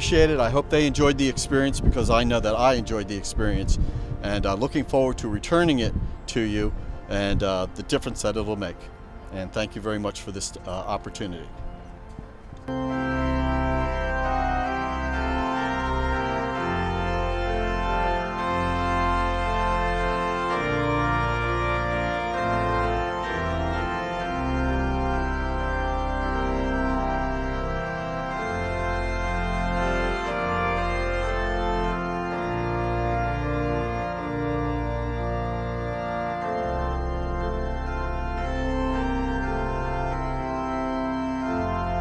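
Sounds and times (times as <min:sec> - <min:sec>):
organ music: 0:00.0 - 0:42.0.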